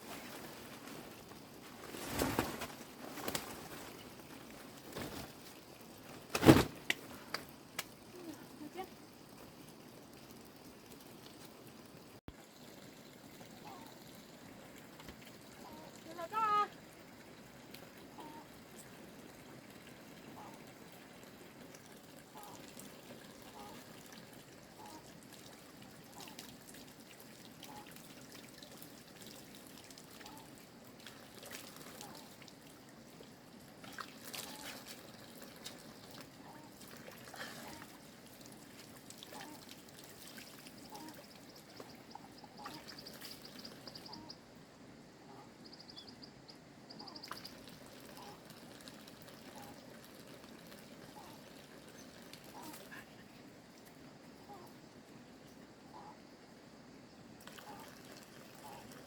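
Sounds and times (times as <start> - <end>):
faint clicks and drips: 6.8 - 44.3, 46.9 - 56.1, 57.4 - 59.0
water trickling and pouring: 7.1 - 44.3, 47.0 - 56.1, 57.4 - 59.0.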